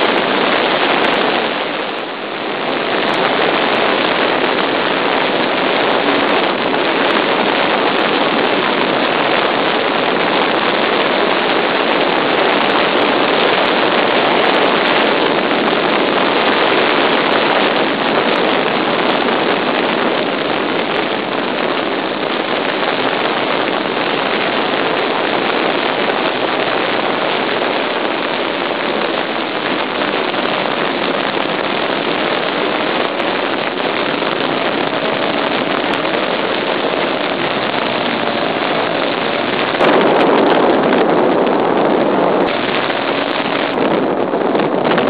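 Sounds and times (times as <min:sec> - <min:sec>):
model airplane engine running: 0:00.0 - 0:45.0
wind noise on microphone: 0:00.0 - 0:45.0.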